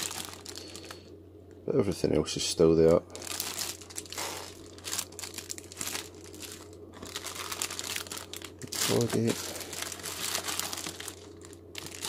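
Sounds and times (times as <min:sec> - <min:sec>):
plastic bags crinkling: 0:00.0 - 0:01.0, 0:02.9 - 0:12.0.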